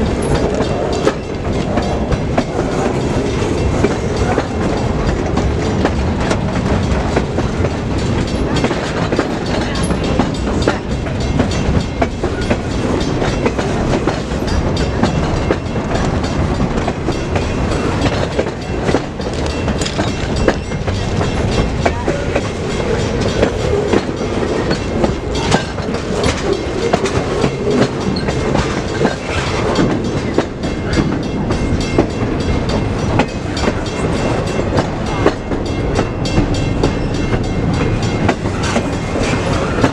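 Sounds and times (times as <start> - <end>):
freight train clattering past: 0.0 - 39.9
wheels clicking over rail joints: 0.0 - 39.9.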